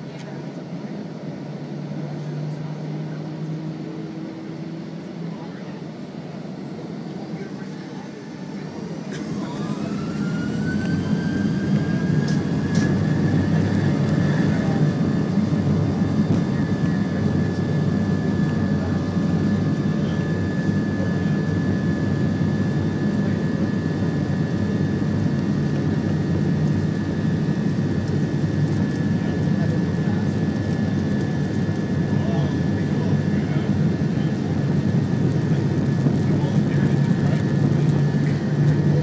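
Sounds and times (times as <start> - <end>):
jet engines spooling up: 6.0 - 39.0.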